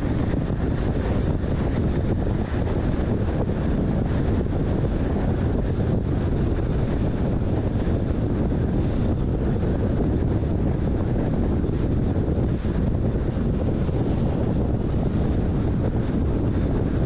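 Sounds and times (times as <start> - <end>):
vehicle road noise at highway speed: 0.0 - 17.0
wind buffeting microphone: 0.0 - 17.0.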